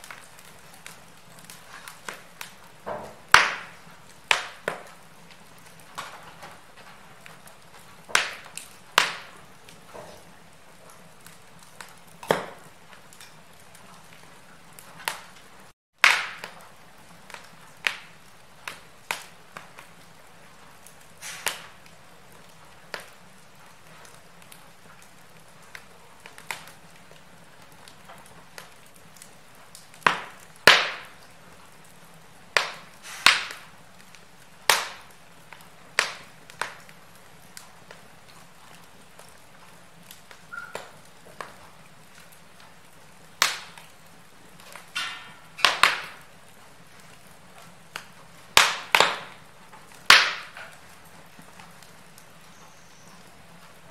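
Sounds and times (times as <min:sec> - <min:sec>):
fire pops and snaps: 0:00.0 - 0:53.9
wood fire crackling: 0:00.0 - 0:53.9.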